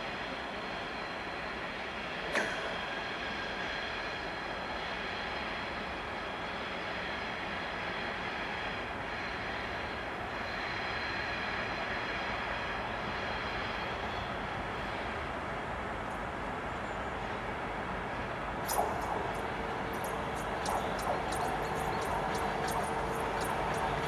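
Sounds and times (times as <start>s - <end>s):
diesel locomotive drone: 0.0s - 24.0s.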